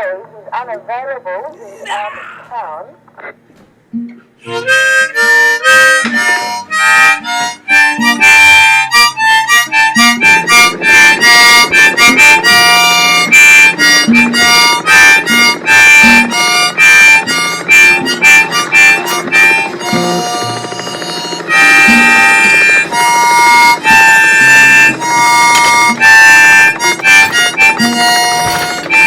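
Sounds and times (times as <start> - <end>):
backing music: 3.8 - 29.0
harmonica playing: 4.0 - 29.0.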